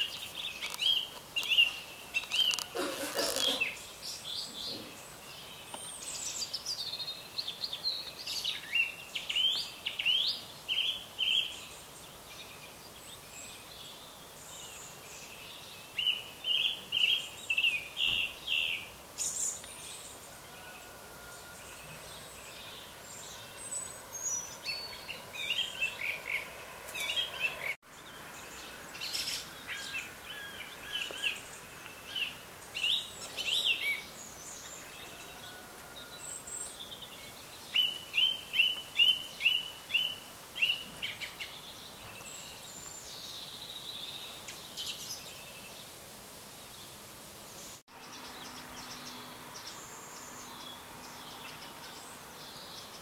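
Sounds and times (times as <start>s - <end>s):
faint outdoor hiss: 0.0s - 53.0s
songbirds singing: 0.0s - 53.0s.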